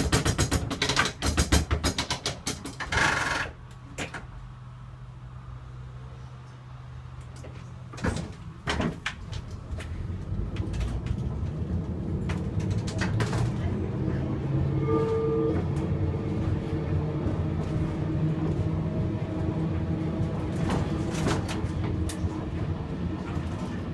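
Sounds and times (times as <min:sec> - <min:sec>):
tram electrical hum: 0:00.0 - 0:23.9
tram wheels rumbling on rails: 0:00.0 - 0:23.9.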